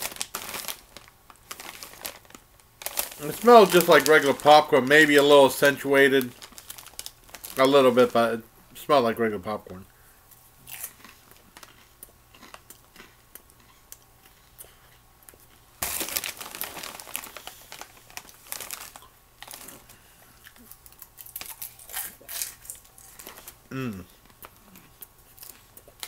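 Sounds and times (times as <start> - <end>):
popcorn being chewed: 0.0 - 8.3, 10.3 - 26.0
snack bag crinkling: 0.0 - 8.3, 10.7 - 13.7, 15.4 - 23.6, 24.2 - 26.0.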